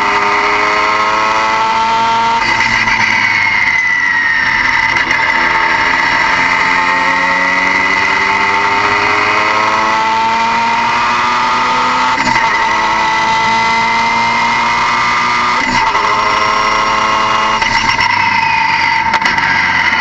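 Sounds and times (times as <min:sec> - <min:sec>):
car engine revving under load: 0:00.0 - 0:20.0
high whine: 0:00.0 - 0:20.0.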